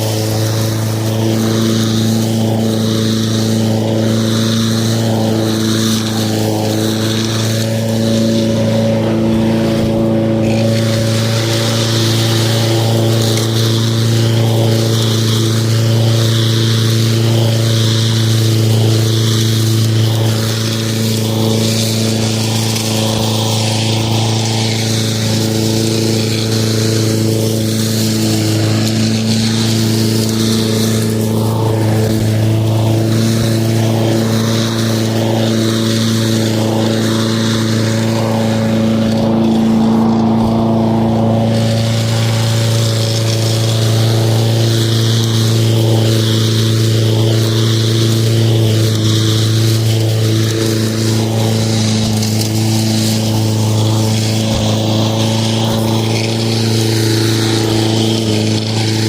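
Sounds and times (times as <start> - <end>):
lawn mower running: 0.0 - 59.0.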